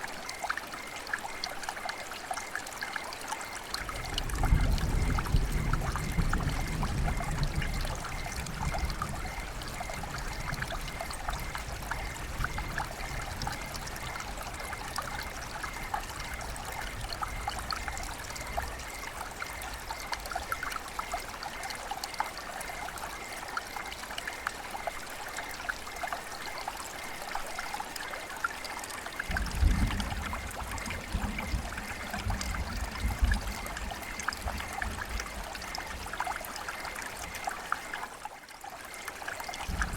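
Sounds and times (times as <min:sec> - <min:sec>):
river water flowing: 0:00.0 - 0:05.9, 0:06.5 - 0:39.9.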